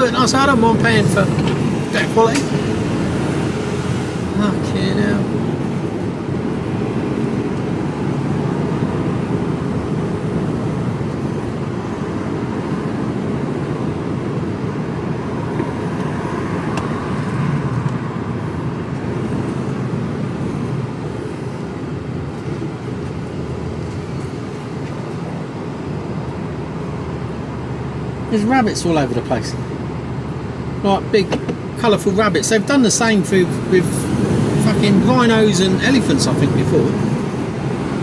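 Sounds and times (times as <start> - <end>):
lorry engine and road noise: 0.0 - 38.0.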